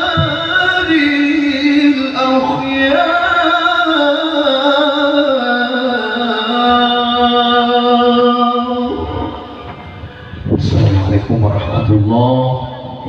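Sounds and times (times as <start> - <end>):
man chanting melodic recitation: 0.0 - 9.5, 10.5 - 13.0.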